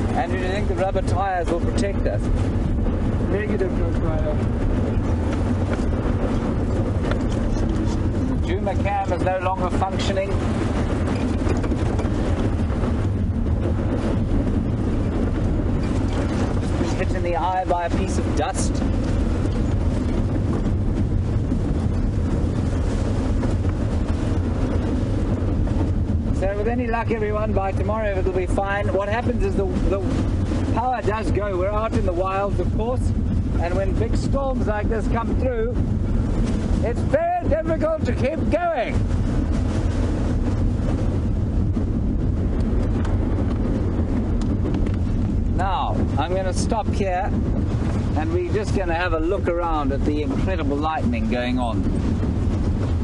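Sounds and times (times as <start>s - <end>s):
vehicle engine running: 0.0s - 53.0s
wind buffeting microphone: 0.0s - 53.0s.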